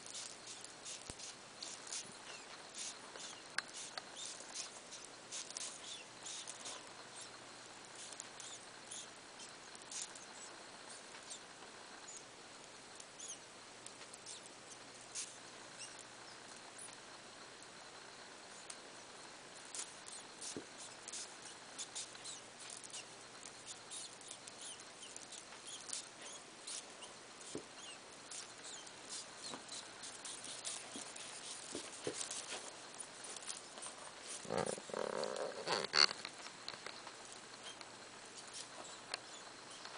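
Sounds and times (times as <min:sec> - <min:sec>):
hedgehogs clicking and snuffling: 0:00.0 - 0:12.2, 0:19.6 - 0:39.9
steady hiss: 0:00.0 - 0:39.9.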